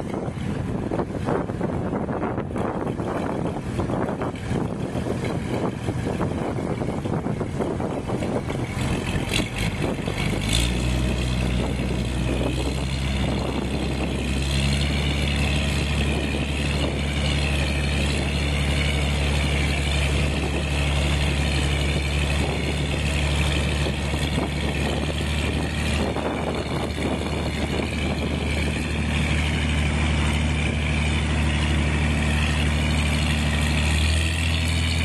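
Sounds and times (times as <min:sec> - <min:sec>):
boat engine idling: 0:00.0 - 0:35.0.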